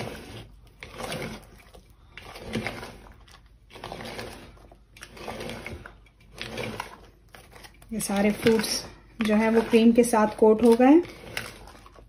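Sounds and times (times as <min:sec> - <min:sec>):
spatula scraping and squishing: 0:00.0 - 0:12.0.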